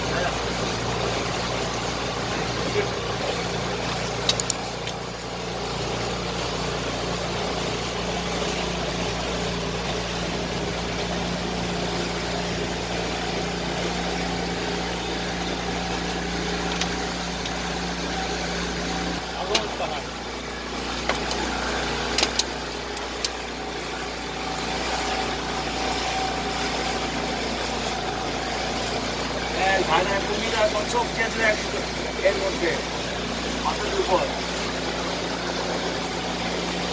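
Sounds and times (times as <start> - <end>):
motorboat engine hum: 0.0 - 36.9
water and wind noise: 0.0 - 36.9.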